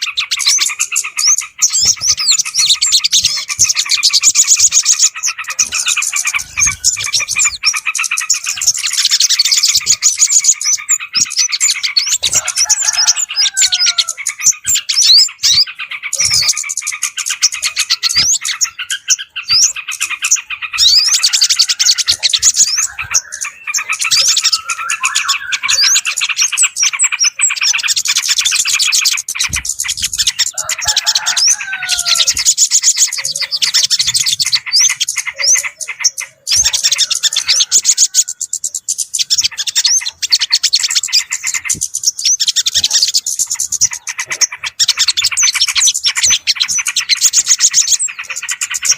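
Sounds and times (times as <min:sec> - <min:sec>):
small birds chirping and twittering: 0:00.0 - 0:48.9.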